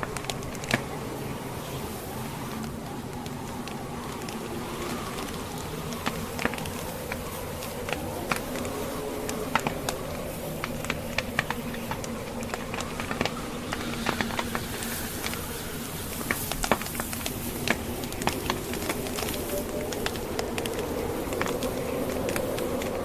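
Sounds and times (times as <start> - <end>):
steady rushing background: 0.0 - 23.0
wood fire crackling: 0.0 - 23.0.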